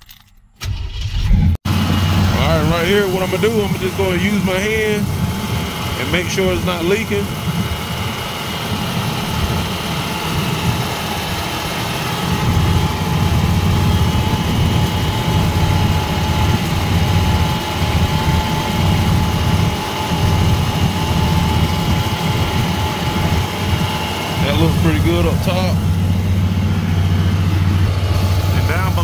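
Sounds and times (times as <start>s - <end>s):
car engine idling: 0.6s - 29.0s.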